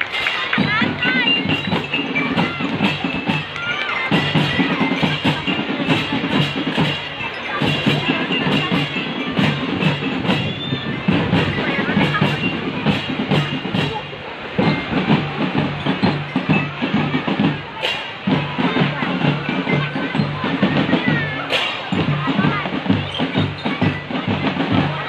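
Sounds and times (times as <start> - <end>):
bass drums: 0.0 - 25.0
bell-lyres ringing a tune: 0.0 - 25.0
marching snare drum: 0.0 - 25.0
tenor drums: 0.0 - 25.0.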